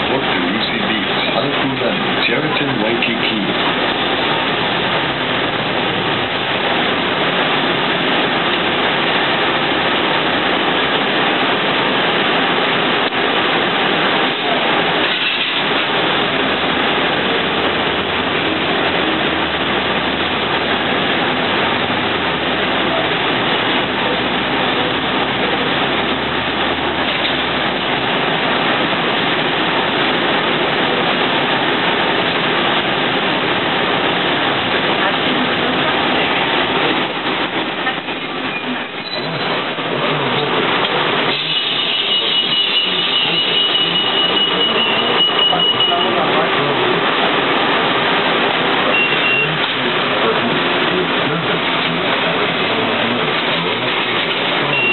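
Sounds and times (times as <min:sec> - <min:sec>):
bus engine and road noise: 0:00.0 - 0:54.9.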